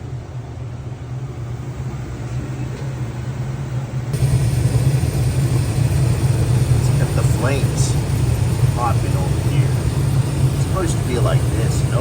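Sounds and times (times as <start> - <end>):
gas furnace humming: 0.0 - 12.0.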